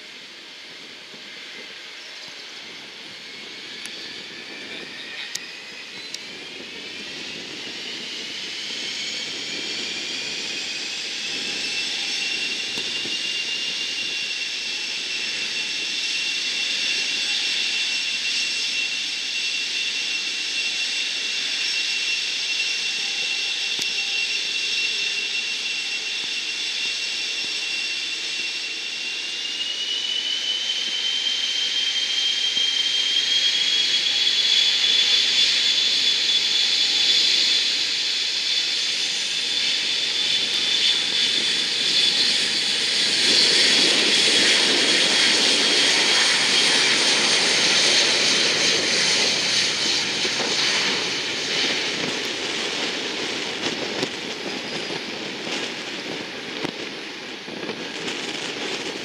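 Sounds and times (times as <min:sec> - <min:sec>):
jet engines whining: 0:00.0 - 0:59.0.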